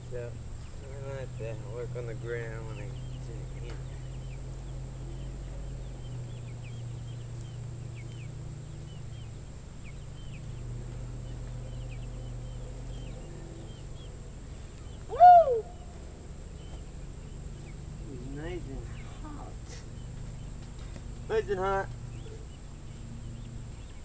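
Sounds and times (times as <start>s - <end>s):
birds chirping: 0.0s - 24.0s
low steady hum: 0.0s - 24.0s.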